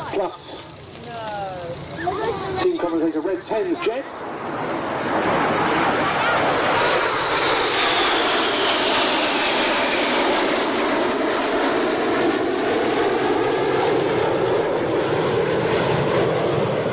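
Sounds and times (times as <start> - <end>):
high jet whine: 0.0 - 16.9
jet roar: 0.0 - 16.9.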